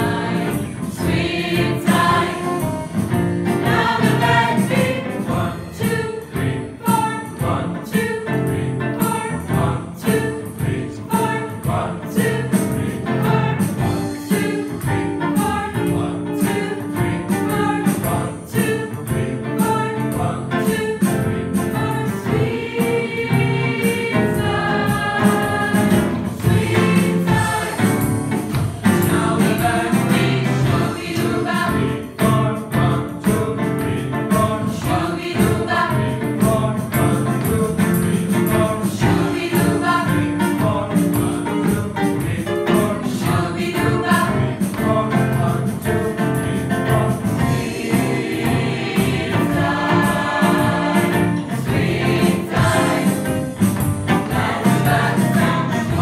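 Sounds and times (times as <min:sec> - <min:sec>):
choir singing swing music: 0:00.0 - 0:56.0
drum kit cymbals tapping: 0:00.0 - 0:56.0.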